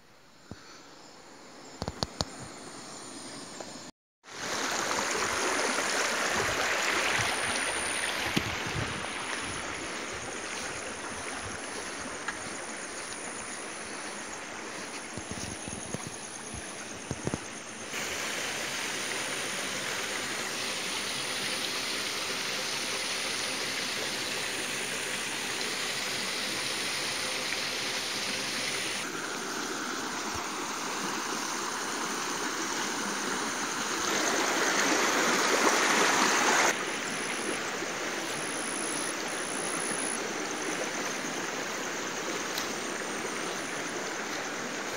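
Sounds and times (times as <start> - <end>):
stream running over stones: 4.2 - 44.9.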